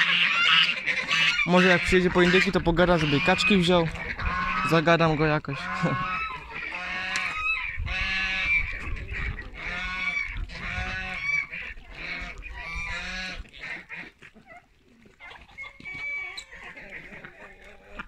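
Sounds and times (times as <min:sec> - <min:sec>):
domestic waterfowl calling: 0:00.0 - 0:18.0.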